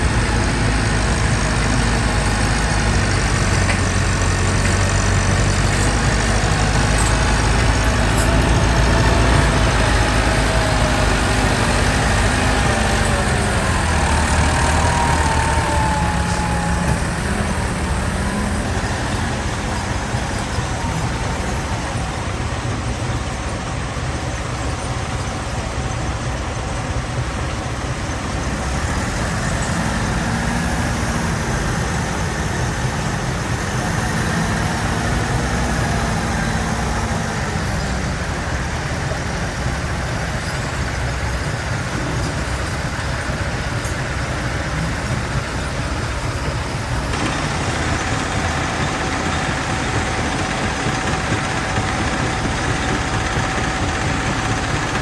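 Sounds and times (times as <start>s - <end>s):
rock crusher machinery rumbling: 0.0s - 55.0s
wavering machine whine: 0.0s - 55.0s.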